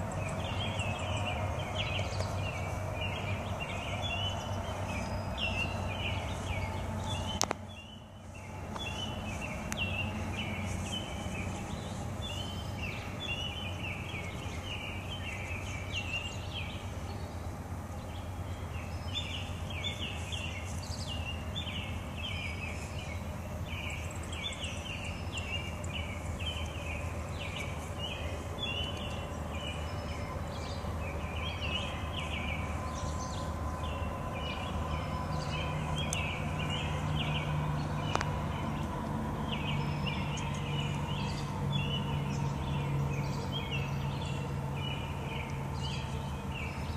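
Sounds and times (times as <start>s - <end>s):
small birds chirping: 0.0s - 46.9s
steady low background hum: 0.0s - 46.9s.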